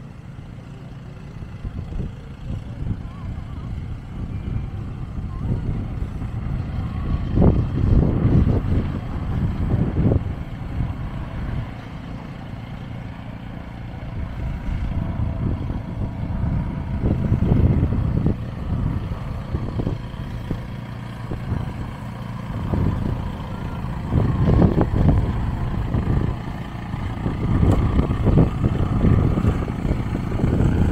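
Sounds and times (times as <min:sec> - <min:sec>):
wind buffeting microphone: 0:01.4 - 0:30.9.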